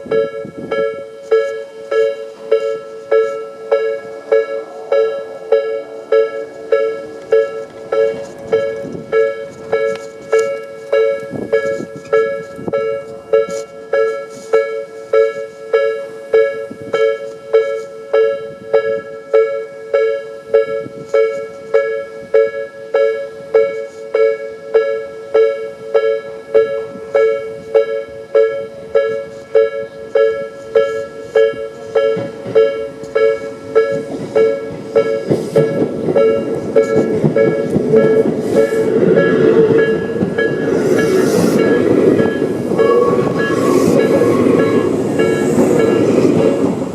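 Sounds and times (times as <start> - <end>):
approaching train rumble: 0.0 - 17.4, 25.2 - 46.9
level-crossing warning bell dings: 0.0 - 46.9.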